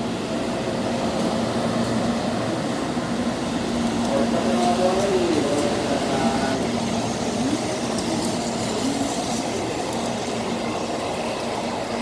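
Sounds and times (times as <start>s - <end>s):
train rolling rumble: 0.0s - 12.0s.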